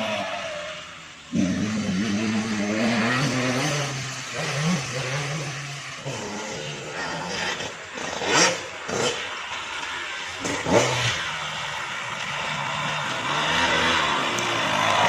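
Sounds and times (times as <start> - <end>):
loud rush of noise: 0.0 - 15.0.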